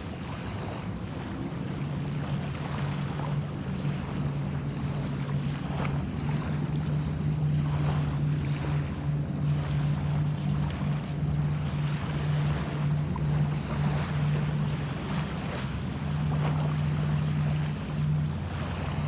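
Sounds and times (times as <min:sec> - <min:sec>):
water lapping: 0:00.0 - 0:19.0
steady low hum: 0:00.8 - 0:19.0.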